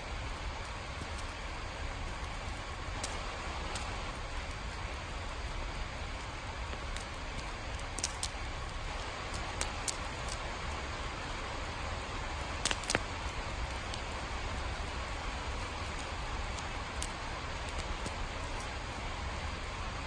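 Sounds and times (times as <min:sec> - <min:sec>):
steady rain falling: 0:00.0 - 0:20.0
sharp drip ticks: 0:00.2 - 0:19.6.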